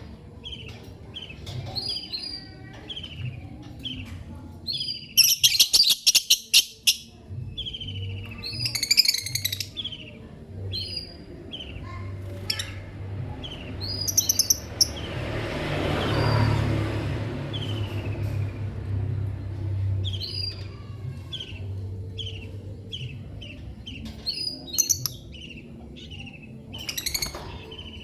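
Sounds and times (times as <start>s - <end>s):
lovebirds chirping: 0.0s - 18.6s, 20.0s - 28.0s.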